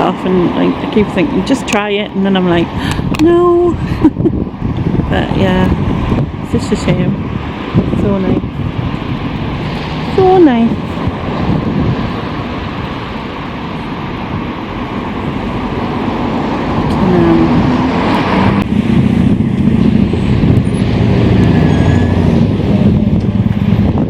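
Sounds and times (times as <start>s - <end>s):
road traffic noise: 0.0s - 24.0s
vehicle engine: 0.0s - 24.0s.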